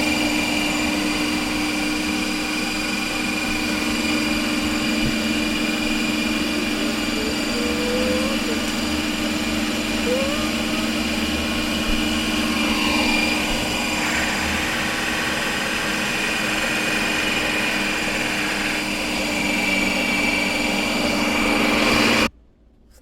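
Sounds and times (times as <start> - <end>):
ice cream maker motor whining: 0.0 - 22.3.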